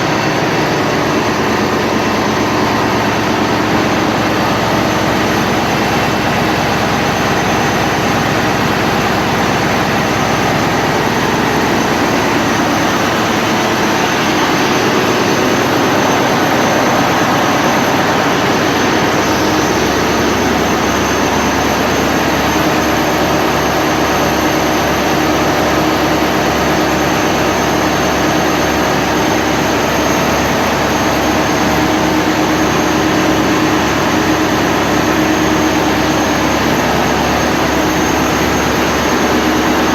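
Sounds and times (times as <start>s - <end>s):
marine diesel engine running: 0.0s - 39.9s.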